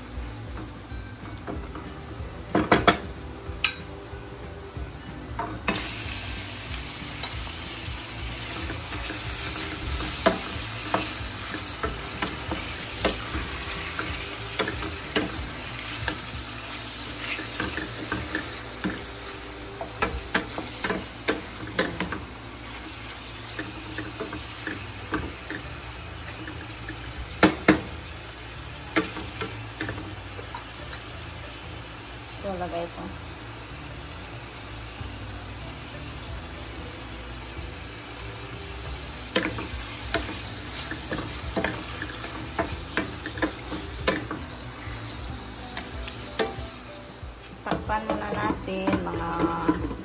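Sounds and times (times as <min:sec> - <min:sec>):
shrimp sizzling in butter: 0:00.0 - 0:50.0.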